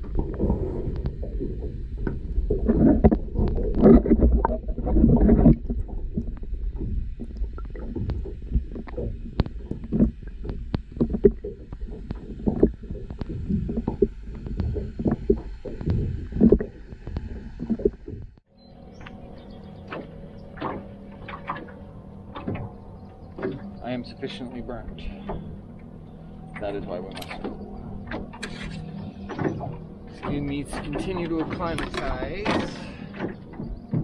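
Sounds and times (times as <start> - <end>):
muffled underwater water rumble: 0.0 - 34.0.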